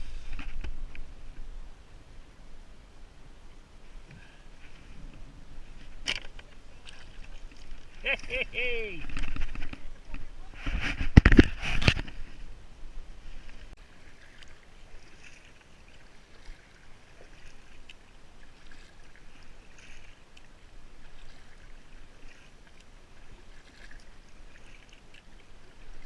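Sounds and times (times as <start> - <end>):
soft wash of water: 0.0 - 26.0
paddle strokes splashing water: 3.8 - 12.6, 13.2 - 26.0.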